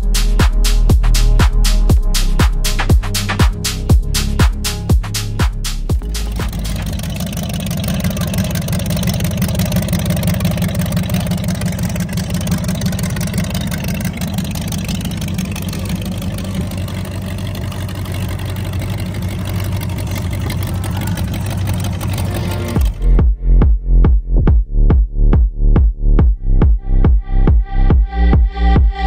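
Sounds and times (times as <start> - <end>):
tractor engine running: 0.0 - 23.3.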